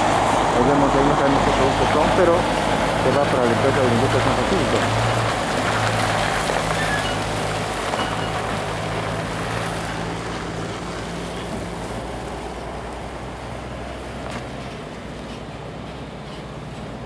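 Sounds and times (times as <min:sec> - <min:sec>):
truck diesel engine driving away: 0:00.0 - 0:17.0.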